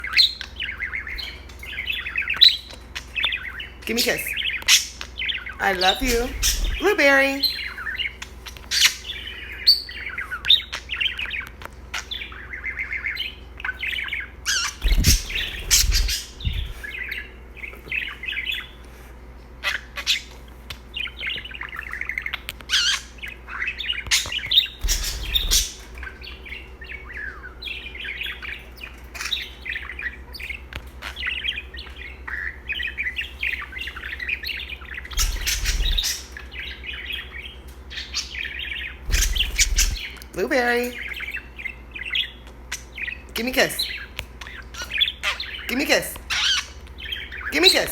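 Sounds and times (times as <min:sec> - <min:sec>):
budgerigar warbling and chirping: 0:00.0 - 0:18.9, 0:19.6 - 0:47.9.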